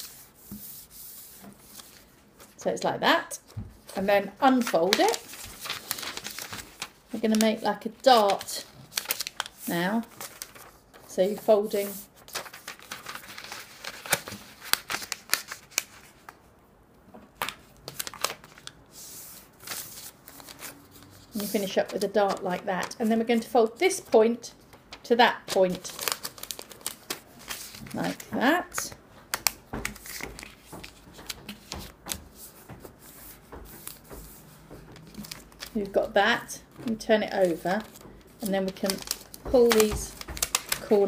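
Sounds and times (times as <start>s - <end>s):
paper being folded and creased: 0.0s - 2.6s, 3.4s - 16.4s, 17.4s - 24.1s, 24.7s - 41.0s.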